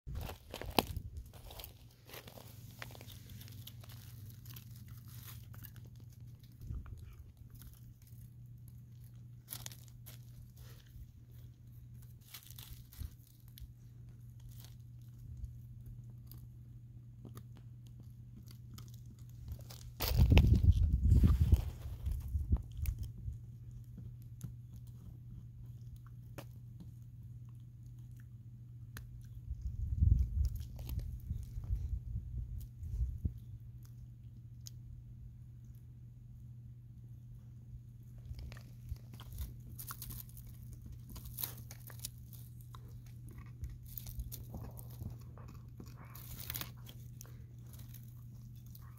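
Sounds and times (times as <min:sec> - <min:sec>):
puppy chewing branches: 0:00.1 - 0:48.9
steady low hum: 0:00.1 - 0:48.9.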